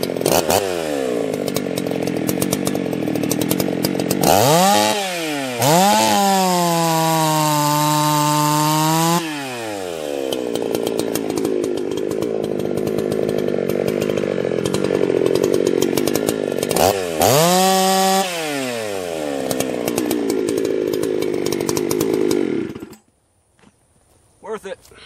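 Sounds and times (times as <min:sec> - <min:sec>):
chainsaw cutting logs: 0:00.0 - 0:23.2.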